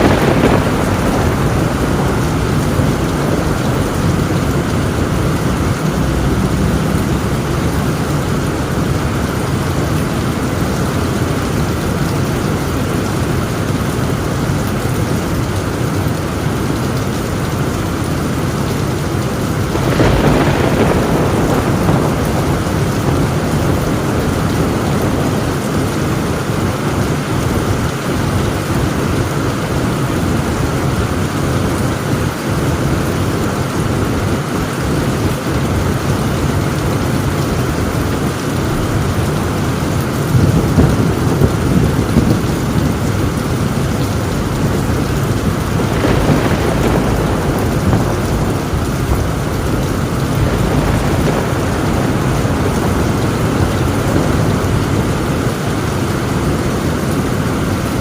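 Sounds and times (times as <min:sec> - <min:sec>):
rain on a tin roof: 0:00.0 - 0:58.0
thunder rumbling: 0:00.0 - 0:58.0.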